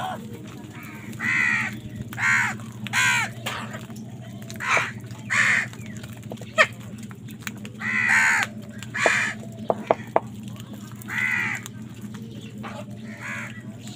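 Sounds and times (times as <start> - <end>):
crows cawing: 0.0 - 7.0, 7.7 - 10.4, 11.0 - 11.8, 12.6 - 13.9
steady low hum: 0.0 - 13.9.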